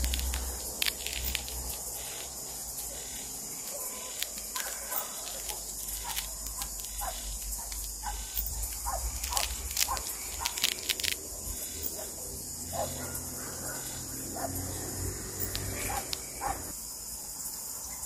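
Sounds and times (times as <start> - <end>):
frog calls: 0.0 - 16.8
insect trill: 0.0 - 18.0.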